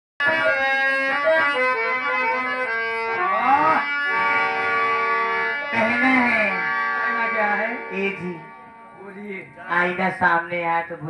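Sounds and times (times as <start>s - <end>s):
reedy instrumental melody: 0.2s - 10.7s.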